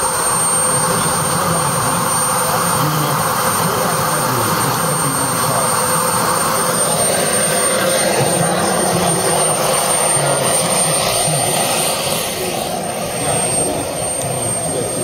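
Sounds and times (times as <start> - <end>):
small jet turbine engine running: 0.0 - 15.0.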